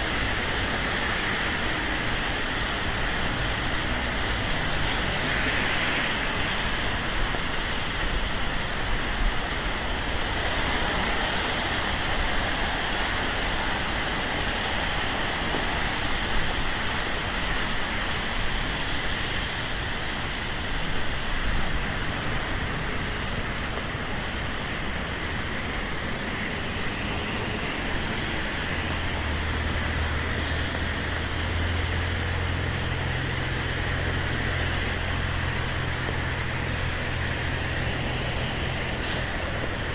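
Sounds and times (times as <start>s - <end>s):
large vehicle engine hum: 0.0s - 39.9s
rain hissing on street: 0.0s - 39.9s
traffic on wet pavement: 0.0s - 39.9s.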